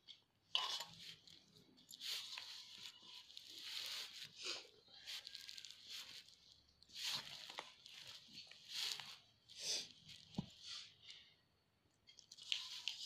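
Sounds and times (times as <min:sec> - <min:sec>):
hand kneading dough in a bowl: 0:00.2 - 0:11.1.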